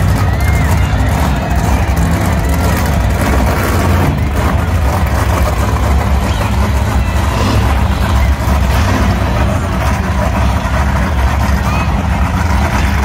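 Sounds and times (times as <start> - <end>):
truck engine deep rumble: 0.0 - 13.0.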